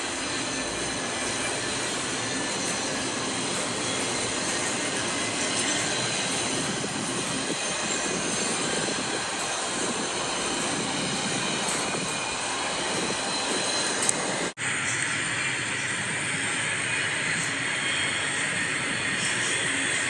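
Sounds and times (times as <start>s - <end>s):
freight train wheels on rail: 0.0s - 20.0s.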